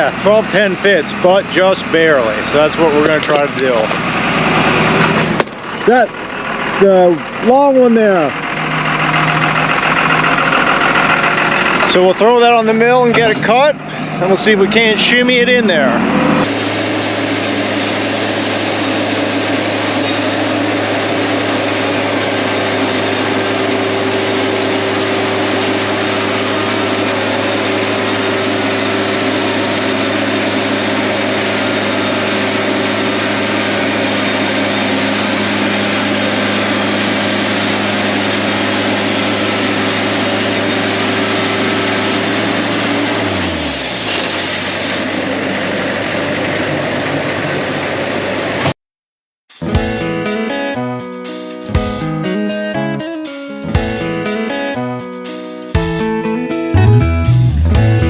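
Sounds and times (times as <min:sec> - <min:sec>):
engine running: 0:00.0 - 0:48.8, 0:49.6 - 0:51.0, 0:51.6 - 0:55.1, 0:55.7 - 0:58.0.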